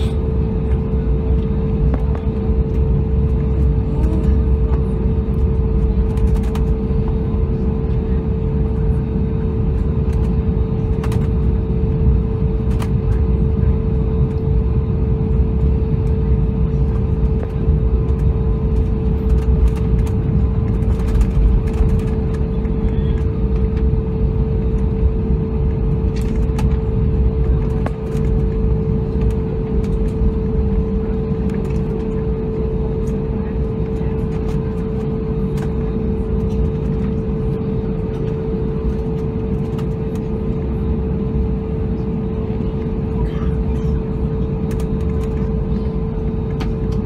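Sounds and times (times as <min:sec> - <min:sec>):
jet engines low rumble: 0:00.0 - 0:47.0.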